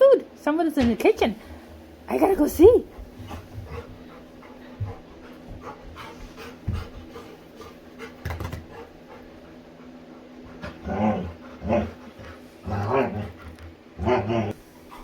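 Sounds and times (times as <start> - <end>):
dog panting: 1.4 - 13.7, 14.5 - 15.0.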